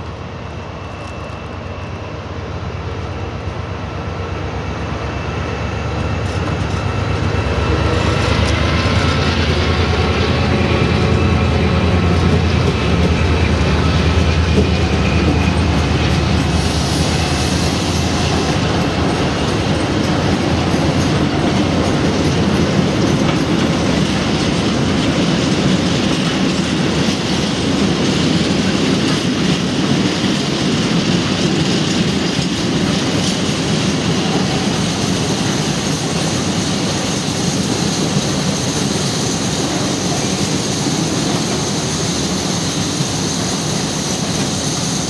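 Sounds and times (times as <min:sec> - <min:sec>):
train wagons rumbling past: 0:00.0 - 0:45.0
wheels clattering on rail joints: 0:06.0 - 0:45.0.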